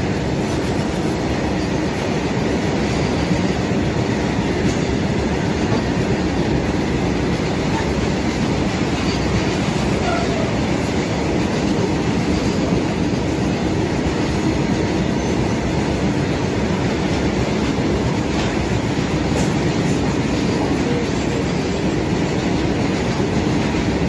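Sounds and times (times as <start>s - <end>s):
freight train passing: 0.0s - 24.0s
wheels running on rails: 0.0s - 24.0s.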